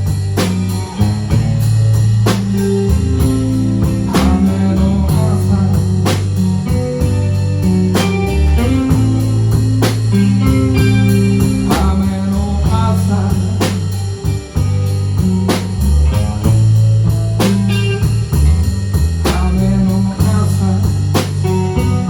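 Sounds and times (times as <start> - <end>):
drum strokes: 0.0 - 20.4
live blues band playing: 0.0 - 22.0.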